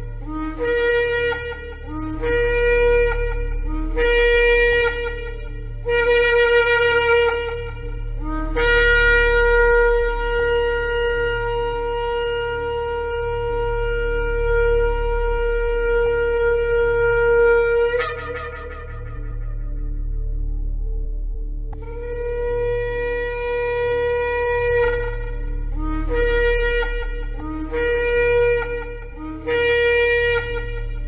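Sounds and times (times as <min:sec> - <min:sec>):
shofar blasts: 0:00.0 - 0:20.6, 0:21.8 - 0:31.0.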